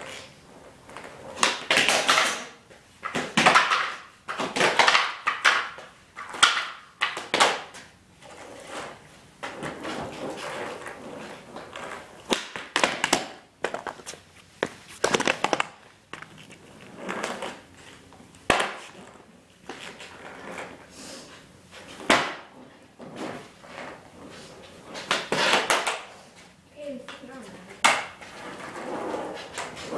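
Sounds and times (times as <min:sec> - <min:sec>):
skateboard wheels rolling: 0:00.0 - 0:26.6, 0:27.8 - 0:29.9.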